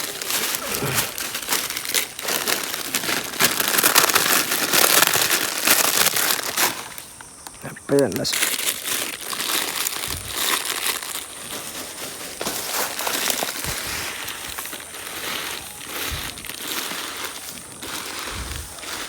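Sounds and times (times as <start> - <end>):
plastic packets crinkling: 0.0 - 19.0.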